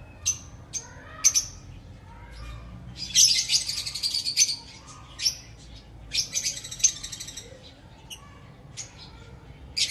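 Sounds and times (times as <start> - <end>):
lovebirds chirping: 0.0 - 9.9.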